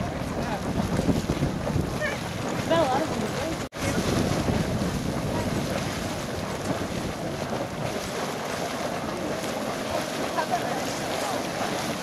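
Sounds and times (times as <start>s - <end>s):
geyser boiling and splashing: 0.0s - 12.0s
wind buffeting microphone: 0.0s - 12.0s.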